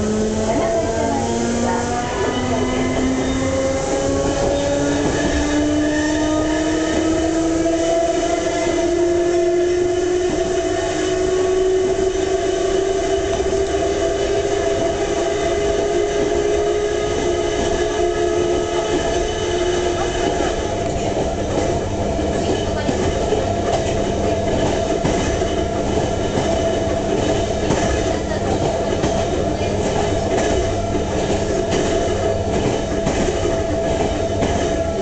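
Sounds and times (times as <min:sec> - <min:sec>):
electric train motor whining: 0:00.0 - 0:35.0.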